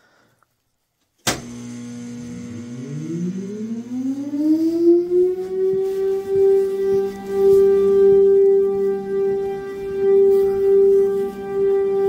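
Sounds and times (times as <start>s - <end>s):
warning siren winding up: 1.3s - 12.0s.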